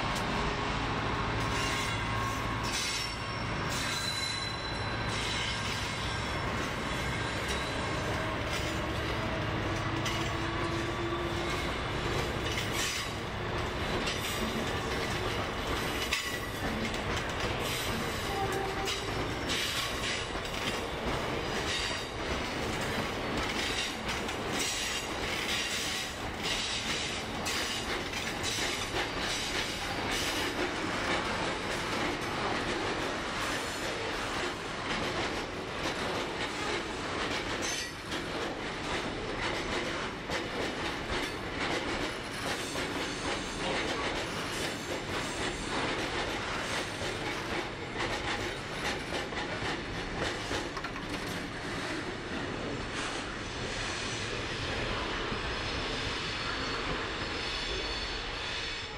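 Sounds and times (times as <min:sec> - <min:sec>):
diesel locomotive engine hum: 0:00.0 - 0:58.9.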